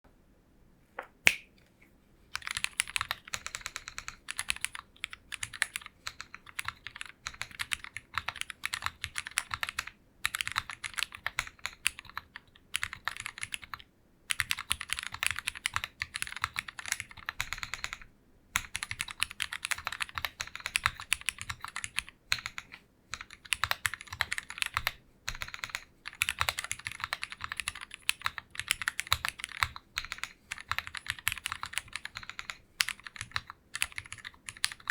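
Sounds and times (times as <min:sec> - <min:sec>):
mechanical keyboard typing: 0:02.4 - 0:34.9.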